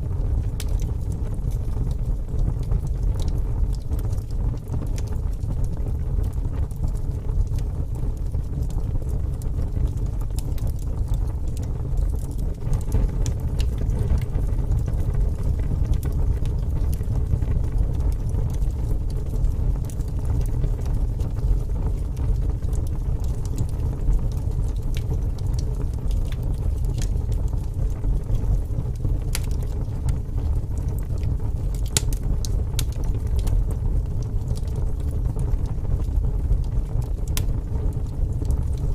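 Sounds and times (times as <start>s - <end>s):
fire crackles and pops: 0.0s - 38.9s
wood fire roaring: 0.0s - 38.9s.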